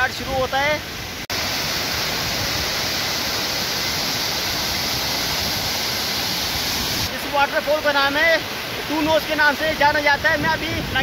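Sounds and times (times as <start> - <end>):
waterfall pouring over rocks: 0.0 - 11.0.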